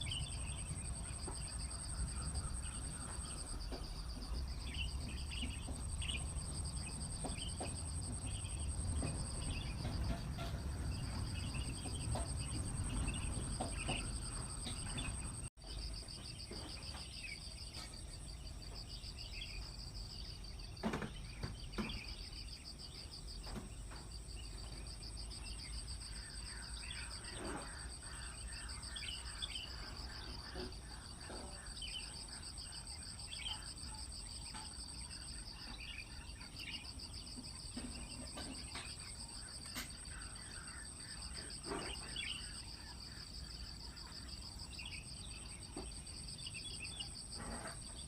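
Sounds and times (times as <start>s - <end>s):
birds chirping: 0.0s - 48.0s
insects trilling: 0.0s - 48.0s.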